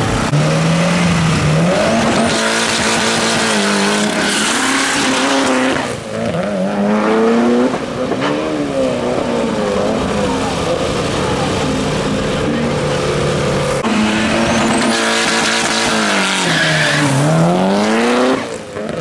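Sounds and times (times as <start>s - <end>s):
car engine revving and accelerating: 0.0s - 19.0s.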